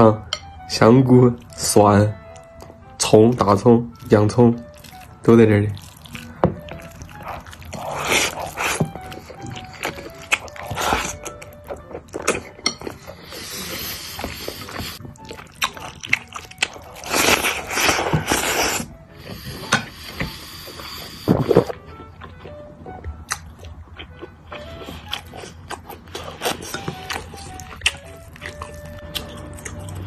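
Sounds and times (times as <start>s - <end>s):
background music: 0.0s - 30.0s
person chewing with wet mouth sounds: 3.9s - 30.0s.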